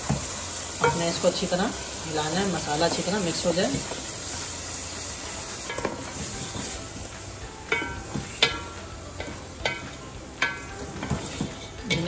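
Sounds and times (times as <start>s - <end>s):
food sizzling in pot: 0.0s - 12.0s
wooden spoon stirring in pot: 0.0s - 12.0s.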